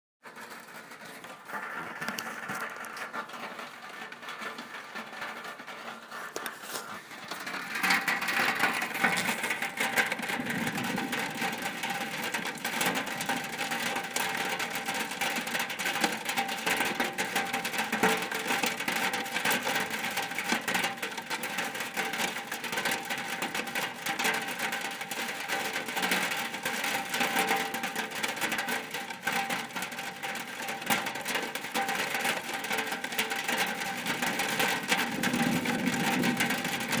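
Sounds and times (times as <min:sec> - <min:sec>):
rain drumming on a roof: 0:00.2 - 0:37.0.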